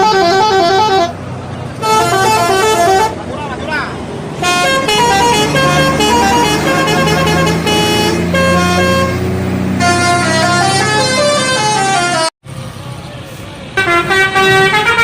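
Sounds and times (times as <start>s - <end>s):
multi-tone musical bus horn: 0.0s - 3.3s, 4.4s - 12.3s, 13.7s - 15.0s.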